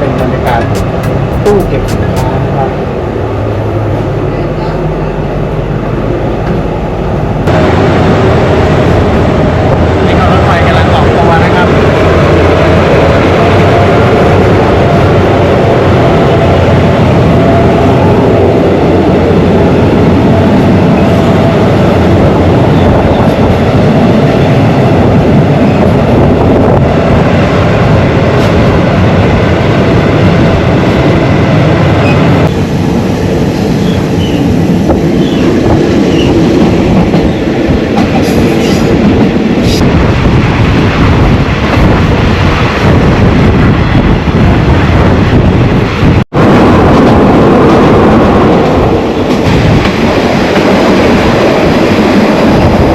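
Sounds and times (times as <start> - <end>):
train carriages rumbling: 0.0 - 52.9.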